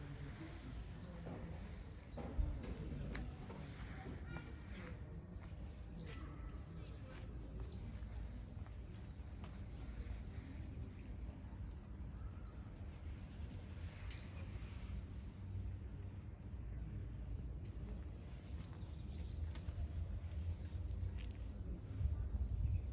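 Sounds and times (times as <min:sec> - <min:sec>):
small birds chirping: 0:00.0 - 0:15.8, 0:17.1 - 0:22.9.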